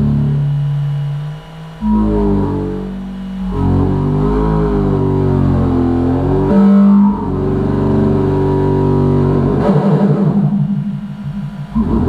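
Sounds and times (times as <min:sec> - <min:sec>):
fast synthesizer pulsing: 0:00.0 - 0:12.0
synthesizer low gliding tones: 0:00.0 - 0:12.0.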